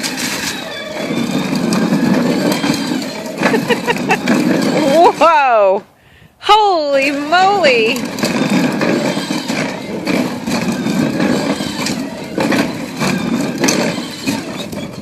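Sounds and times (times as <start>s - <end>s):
metal clanks and knocks: 0.0s - 5.2s, 8.0s - 15.0s
bulldozer diesel engine running: 0.0s - 5.4s, 7.0s - 15.0s.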